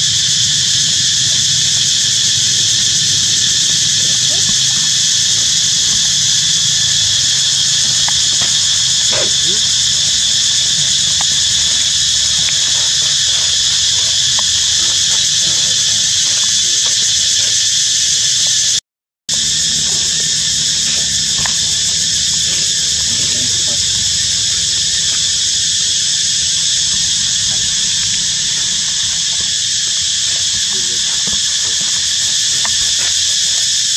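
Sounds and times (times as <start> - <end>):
insects buzzing: 0.0 - 33.9.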